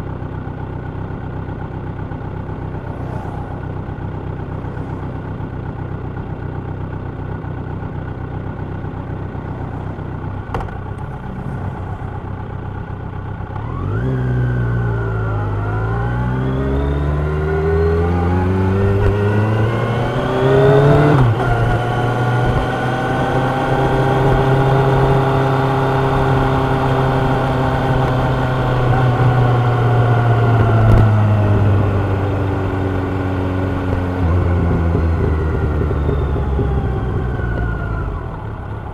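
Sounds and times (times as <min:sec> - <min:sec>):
motorcycle engine revving: 0:01.4 - 0:38.9.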